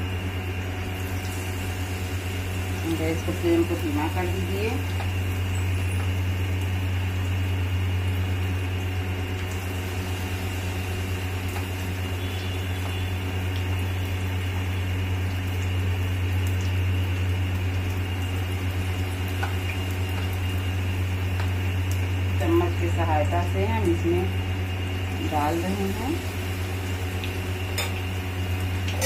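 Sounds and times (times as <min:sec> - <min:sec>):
food deep-frying in hot oil: 0:00.0 - 0:29.0
steady low hum: 0:00.0 - 0:29.0.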